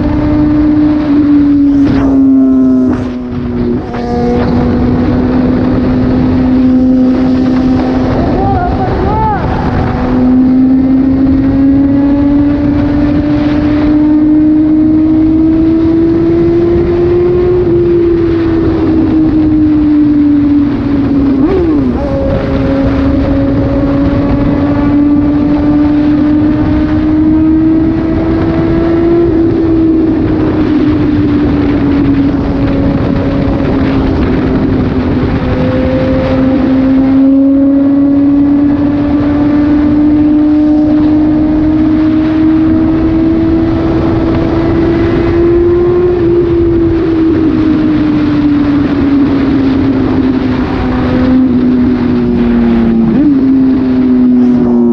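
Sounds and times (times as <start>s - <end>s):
loud motorcycle engine running: 0.0s - 54.9s.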